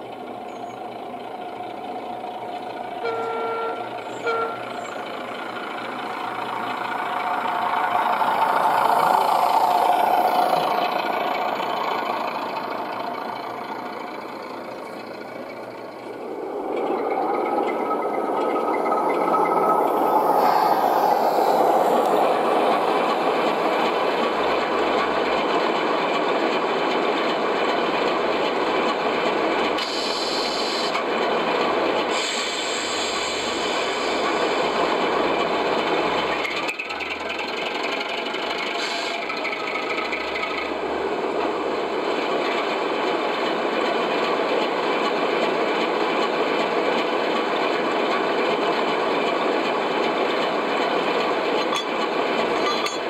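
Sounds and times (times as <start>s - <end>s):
model train rattling and whirring: 0.0s - 53.0s.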